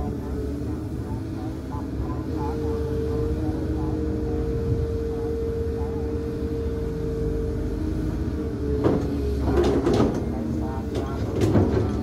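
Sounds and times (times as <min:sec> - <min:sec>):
excavator diesel engine under load: 0:00.0 - 0:12.0.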